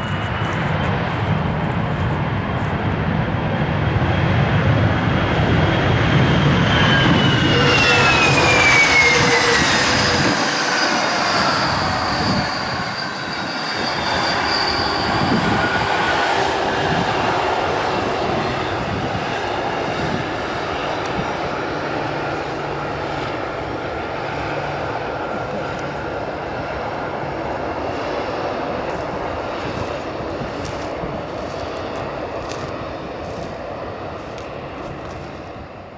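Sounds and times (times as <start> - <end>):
jet engines running: 0.0 - 35.9.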